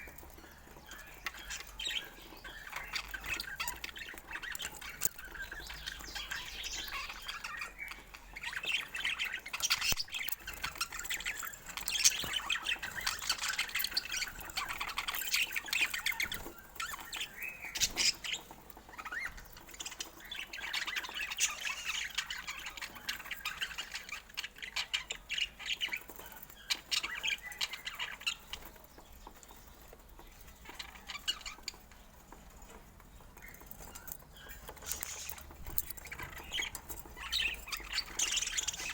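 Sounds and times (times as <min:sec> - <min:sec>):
budgerigars chattering and squawking: 0:00.0 - 0:38.9.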